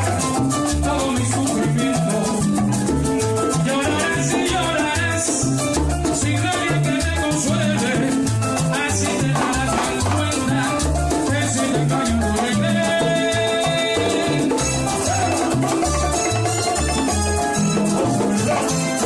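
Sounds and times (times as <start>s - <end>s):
bass line: 0.0s - 19.0s
fast shaker percussion: 0.0s - 19.0s
salsa band playing: 0.0s - 19.0s.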